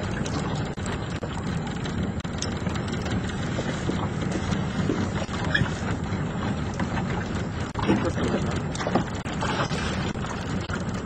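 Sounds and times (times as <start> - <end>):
outboard engine drone: 0.0 - 11.0
water noise: 0.0 - 11.0.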